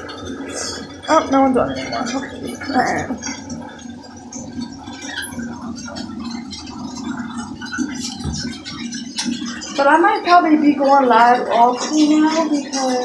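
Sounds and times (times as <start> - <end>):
tap water filling bathtub: 0.0 - 13.0.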